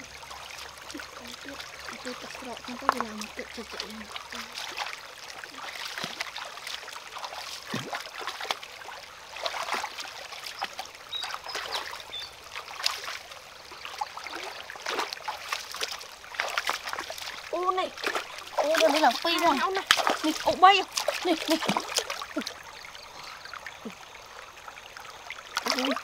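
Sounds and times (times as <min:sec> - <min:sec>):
stream water trickling: 0:00.0 - 0:26.0.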